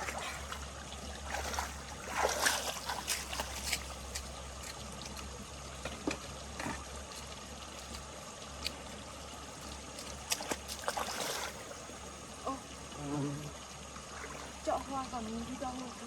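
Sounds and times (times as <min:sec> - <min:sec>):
small water splashes: 0:00.0 - 0:12.9, 0:13.5 - 0:16.0
water trickling: 0:00.0 - 0:16.0.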